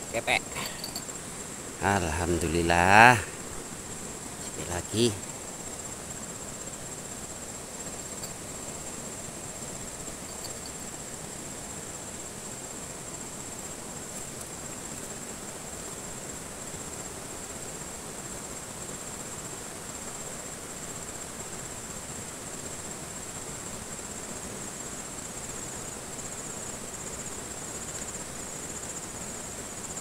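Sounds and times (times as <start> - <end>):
insects chirping high-pitched: 0.0 - 30.0.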